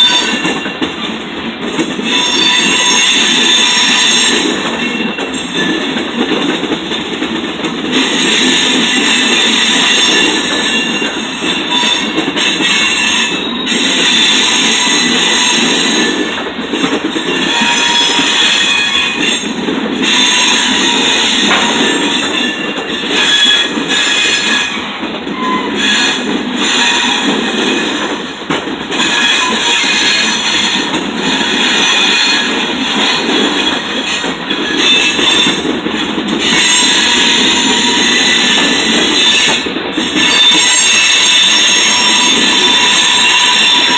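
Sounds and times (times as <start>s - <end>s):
steel wheels squealing: 0.0s - 0.8s, 2.0s - 6.0s, 7.9s - 16.4s, 17.2s - 28.1s, 28.9s - 43.9s
train rumbling: 0.0s - 43.9s.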